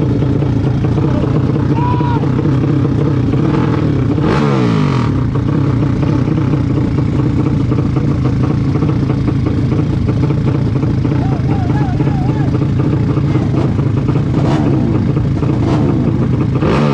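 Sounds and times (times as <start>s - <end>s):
racing motorcycle engines: 0.0s - 16.9s.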